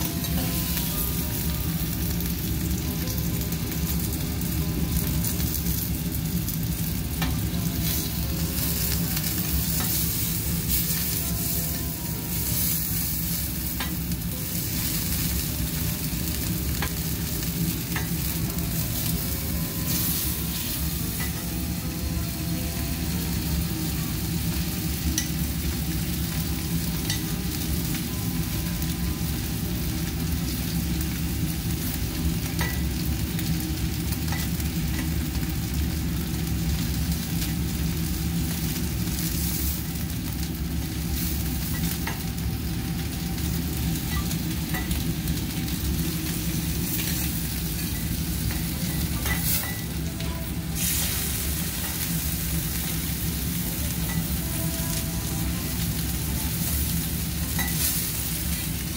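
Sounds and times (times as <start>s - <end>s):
steak sizzling on griddle: 0.0s - 58.9s.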